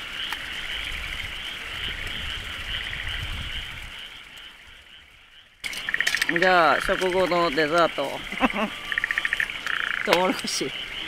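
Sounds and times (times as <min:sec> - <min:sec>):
frogs trilling in chorus: 0:00.0 - 0:11.0.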